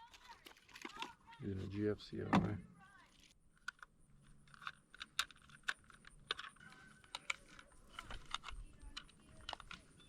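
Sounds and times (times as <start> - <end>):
small hard parts clicking: 0.0 - 1.4, 3.1 - 10.0.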